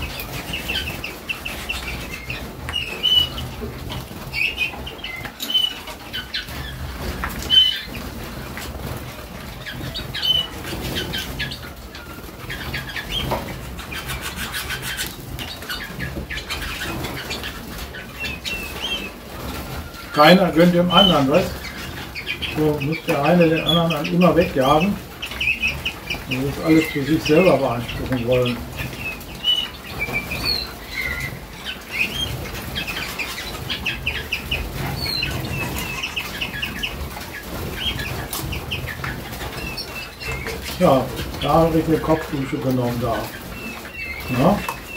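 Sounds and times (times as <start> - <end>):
bird chirping: 0.0 - 44.9
wings fluttering: 0.0 - 44.9.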